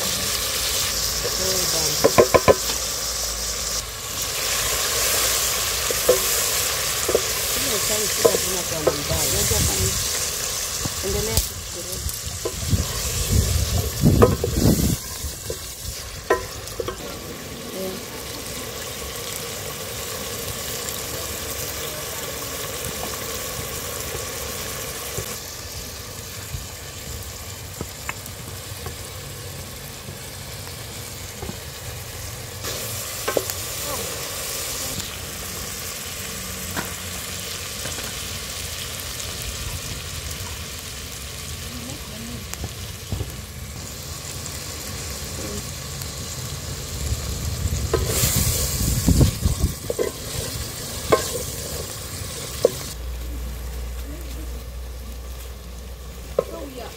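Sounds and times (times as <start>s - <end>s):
vegetables sizzling in a pot: 0.0s - 56.9s.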